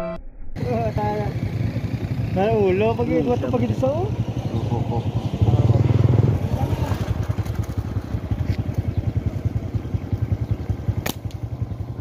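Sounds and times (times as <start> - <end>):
small engine puttering: 0.6 - 12.0.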